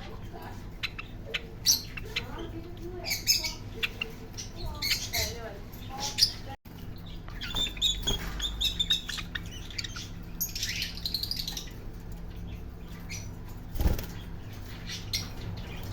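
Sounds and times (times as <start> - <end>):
steady low hum: 0.0 - 15.9
parrot chirping and calling: 0.3 - 13.5.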